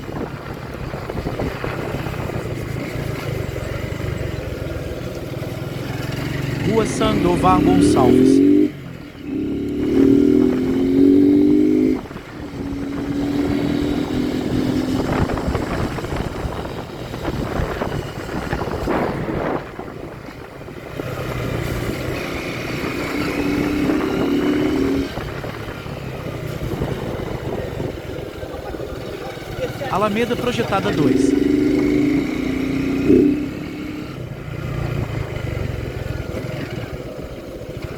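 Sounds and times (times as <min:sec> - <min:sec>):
motorcycle engine accelerating: 0:00.0 - 0:37.9
wind and road rush: 0:00.0 - 0:37.9.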